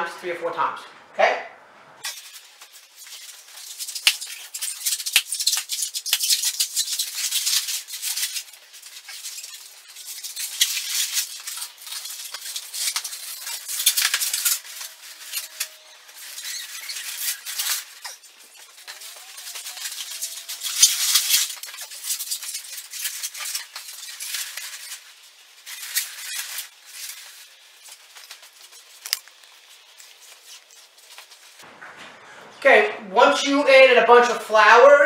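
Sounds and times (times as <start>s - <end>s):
balloons rubbing and squeaking: 2.0s - 32.4s.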